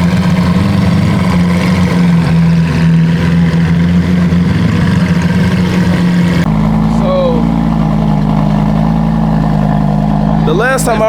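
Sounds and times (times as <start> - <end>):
car exhaust droning at low revs: 0.0 - 11.0.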